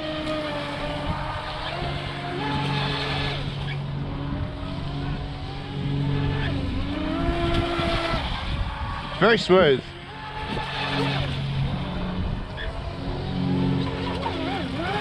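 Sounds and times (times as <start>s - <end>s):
toy boat motor whining: 0.0s - 15.0s.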